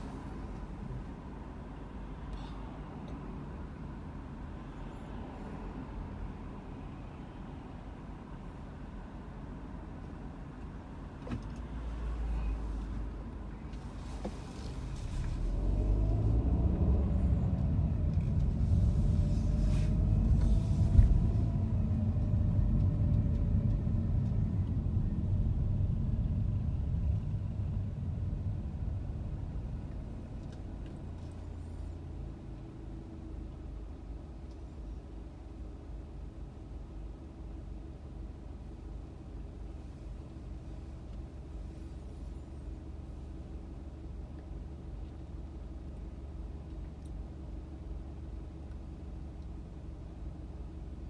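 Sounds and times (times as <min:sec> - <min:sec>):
car engine and road rumble: 0:00.0 - 0:51.0.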